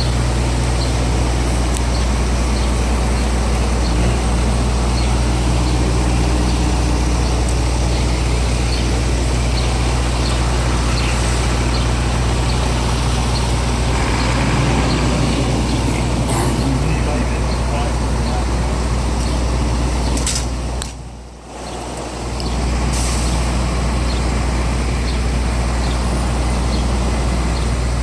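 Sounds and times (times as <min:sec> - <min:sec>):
city street traffic: 0:00.0 - 0:28.0
diesel engine idling: 0:00.0 - 0:28.0.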